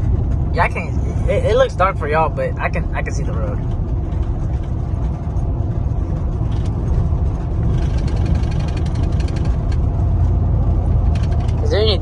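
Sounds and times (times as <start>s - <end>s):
pickup engine and road noise: 0.0s - 12.0s.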